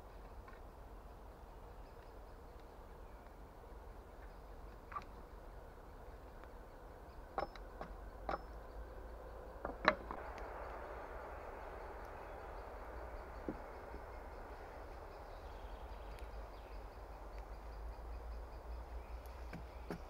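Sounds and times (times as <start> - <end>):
faint outdoor background: 0.0 - 20.0.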